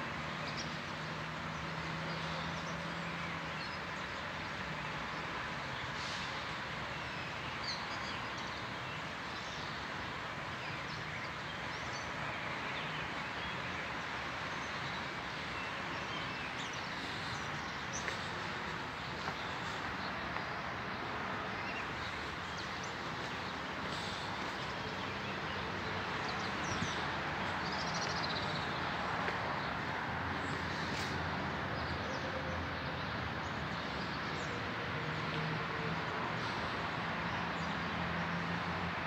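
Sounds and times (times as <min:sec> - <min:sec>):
distant traffic hiss: 0:00.0 - 0:39.0.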